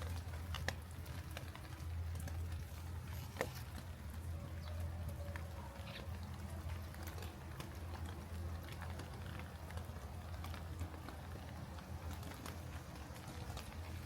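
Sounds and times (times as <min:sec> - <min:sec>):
sharp raindrop ticks: 0:00.0 - 0:14.0
steady rain: 0:00.0 - 0:14.0.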